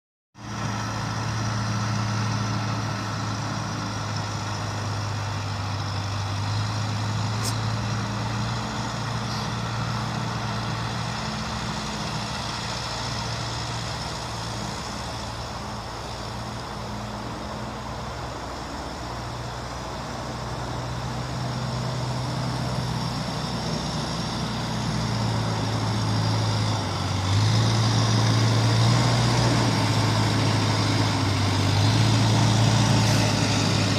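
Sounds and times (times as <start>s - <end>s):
tractor engine humming: 0.4s - 33.9s.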